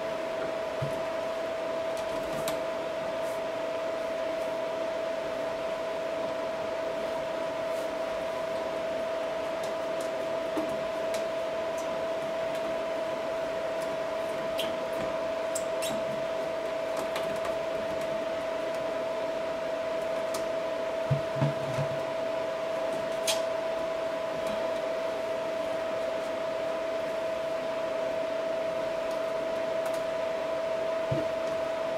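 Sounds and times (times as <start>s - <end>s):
mechanical hum with hiss: 0.0s - 31.9s.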